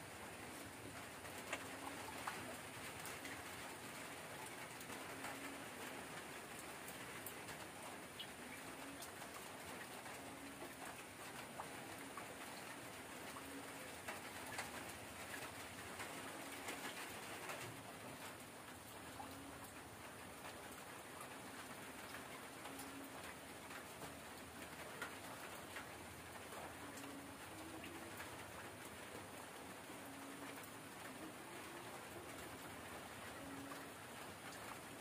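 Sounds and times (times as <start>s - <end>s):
rain pattering: 0.0s - 35.0s
dove cooing: 0.5s - 35.0s
raindrop clicks: 0.5s - 35.0s.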